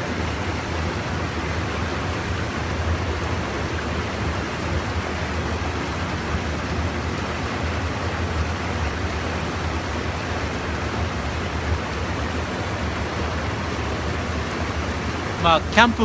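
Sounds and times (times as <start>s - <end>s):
river water rushing over weir: 0.0s - 16.0s.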